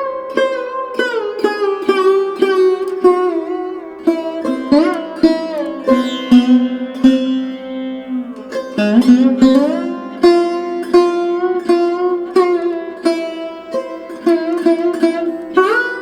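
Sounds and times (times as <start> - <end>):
plucked string instrument melody: 0.0 - 16.0.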